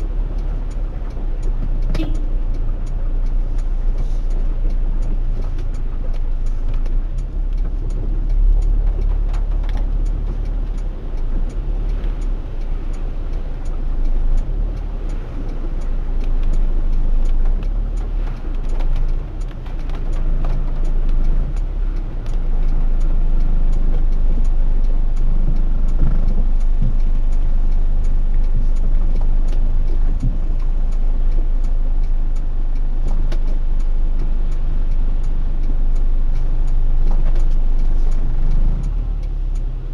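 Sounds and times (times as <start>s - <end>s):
car cabin rumble: 0.0s - 39.9s
light ticks: 0.0s - 39.9s.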